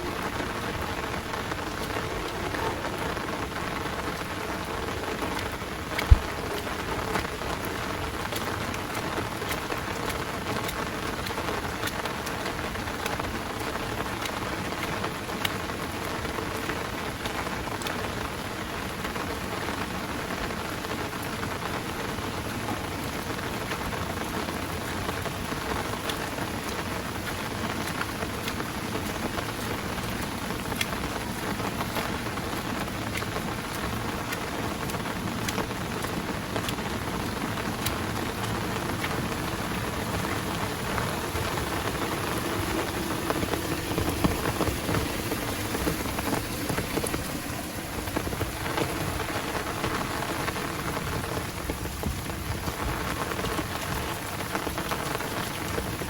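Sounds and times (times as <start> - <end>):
heavy rain falling: 0.0 - 56.0
raindrops ticking close by: 0.0 - 56.0.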